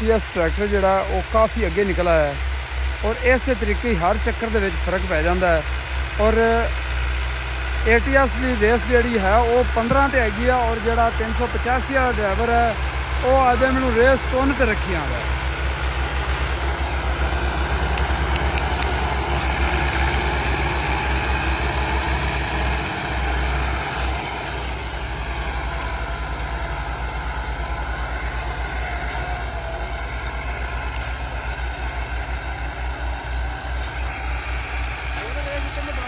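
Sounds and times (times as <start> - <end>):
diesel tractor engines running: 0.0 - 36.0.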